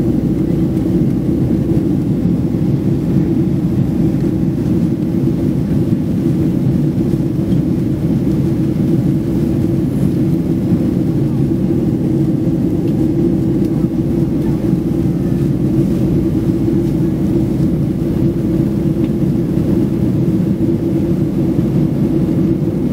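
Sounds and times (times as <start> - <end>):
jet airliner cabin noise: 0.0 - 22.9.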